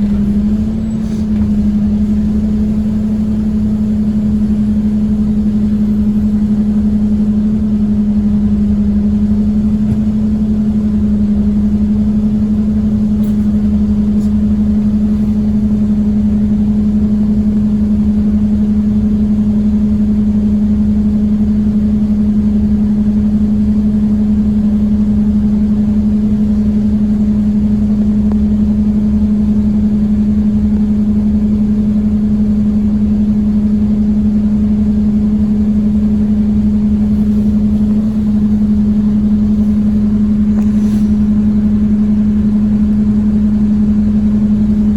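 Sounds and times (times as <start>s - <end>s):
bus engine humming: 0.0s - 44.9s
low road rumble: 0.0s - 44.9s.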